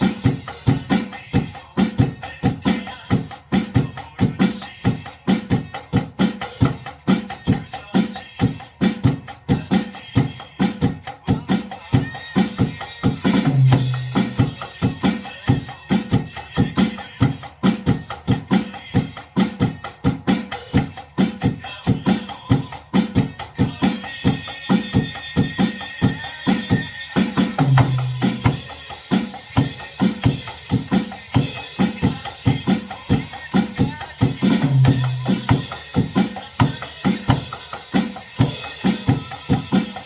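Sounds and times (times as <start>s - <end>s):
christian song backing track: 0.0s - 40.0s
drum kit playing steady beat: 0.0s - 40.0s.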